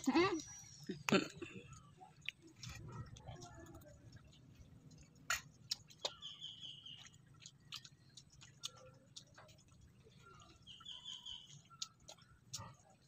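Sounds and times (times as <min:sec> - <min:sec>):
chewing mouth clicks and smacks: 0:00.4 - 0:13.0.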